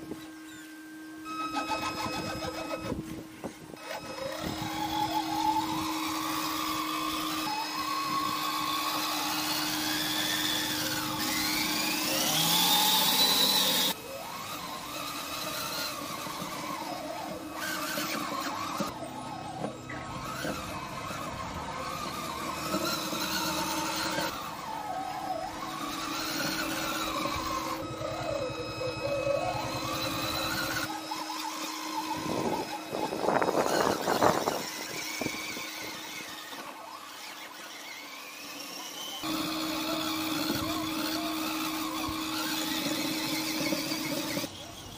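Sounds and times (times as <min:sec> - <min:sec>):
electric motor and gears whining: 0:00.0 - 0:44.9.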